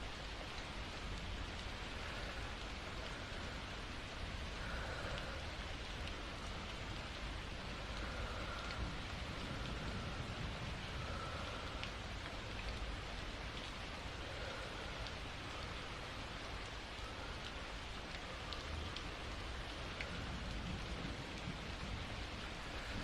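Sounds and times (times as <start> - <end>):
soft slow breathing: 0.0 - 23.0
steady rain: 0.0 - 23.0.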